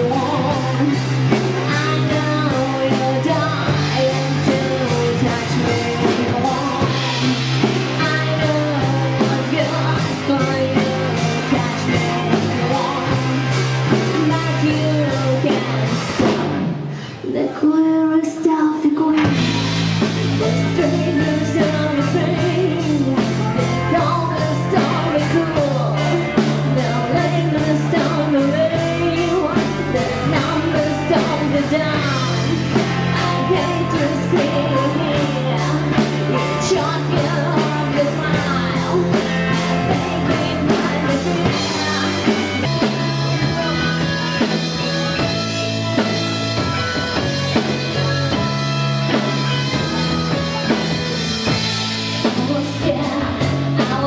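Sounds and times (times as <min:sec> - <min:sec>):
woman singing lead: 0:00.0 - 0:16.3, 0:16.9 - 0:54.0
drums keeping a beat: 0:00.0 - 0:17.1, 0:19.1 - 0:54.0
electric guitar: 0:00.0 - 0:17.6, 0:18.3 - 0:54.0
bass guitar: 0:00.0 - 0:54.0
keyboards: 0:00.0 - 0:54.0.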